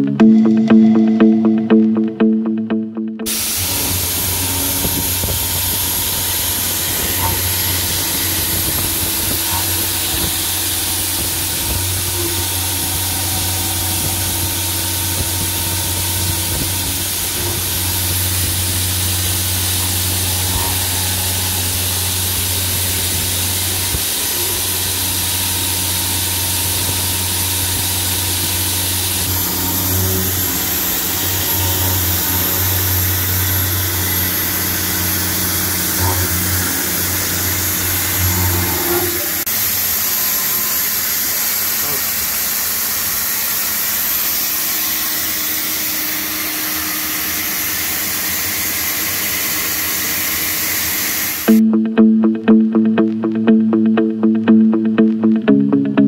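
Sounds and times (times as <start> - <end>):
milling machine hum: 3.3 - 51.6.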